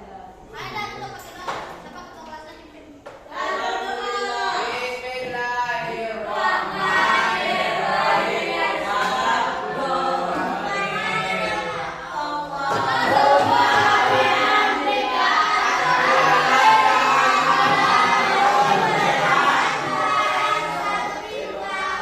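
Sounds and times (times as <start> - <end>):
students singing in unison: 3.3 - 22.0.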